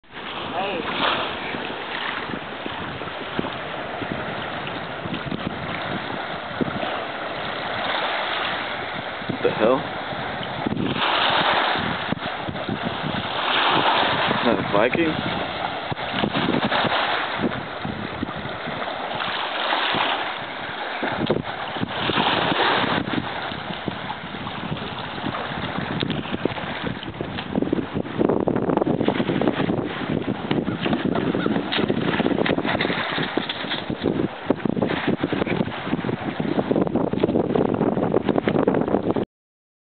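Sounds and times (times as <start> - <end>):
kayak paddle splashes and knocks: 0.0 - 14.5, 15.2 - 27.8, 28.8 - 36.4, 37.0 - 38.6
small waves lapping: 0.0 - 37.4
wind blowing across microphone: 0.0 - 39.2.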